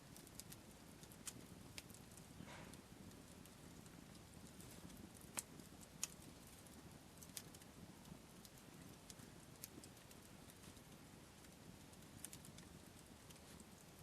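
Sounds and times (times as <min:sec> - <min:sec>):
campfire burning: 0:00.0 - 0:14.0
fire pops: 0:00.0 - 0:14.0.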